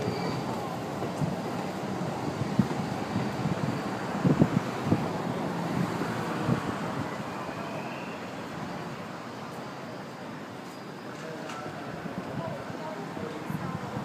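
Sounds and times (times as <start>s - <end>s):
low rumbling vehicle noise: 0.0s - 14.0s.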